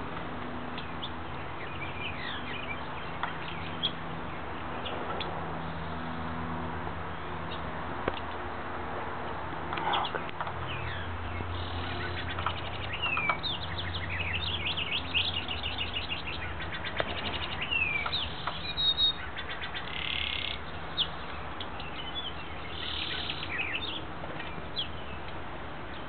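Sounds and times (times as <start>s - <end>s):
songbirds chirping: 0.0s - 8.6s, 9.6s - 26.0s.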